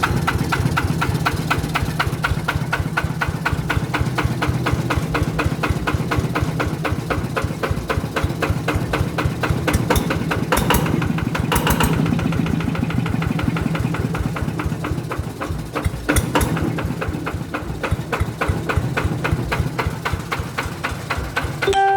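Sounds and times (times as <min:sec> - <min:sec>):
diesel engine idling: 0:00.0 - 0:21.9.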